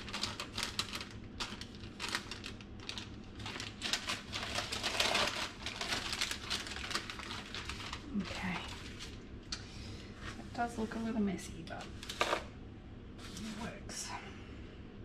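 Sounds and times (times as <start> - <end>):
baking paper rustling and crinkling: 0.0 - 9.3, 10.1 - 12.5, 13.2 - 13.9.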